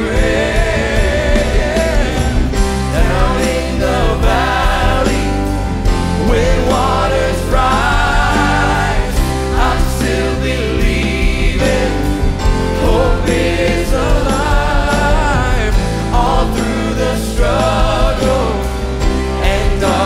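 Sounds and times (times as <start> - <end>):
band playing worship music: 0.0 - 20.0
choir of young voices: 0.0 - 20.0
woman and man singing lead: 0.0 - 20.0.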